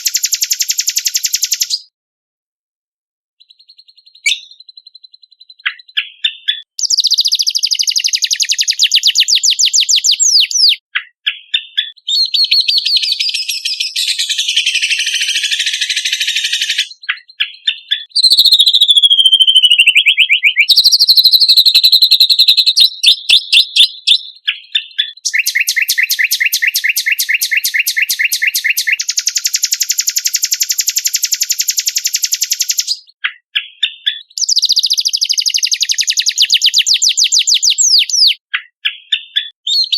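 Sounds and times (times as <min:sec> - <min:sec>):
songbird singing: 0:00.0 - 0:01.9, 0:03.4 - 0:39.9.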